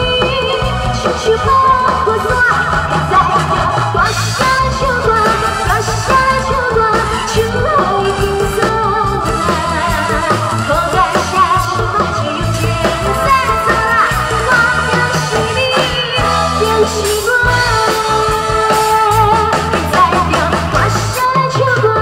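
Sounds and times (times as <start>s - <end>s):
amplified stage music: 0.0s - 22.0s
woman singing into a microphone: 0.0s - 22.0s.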